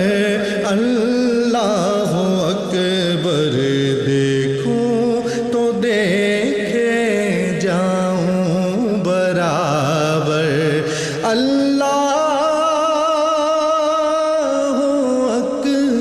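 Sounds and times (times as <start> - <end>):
man singing melismatic notes: 0.0 - 16.0.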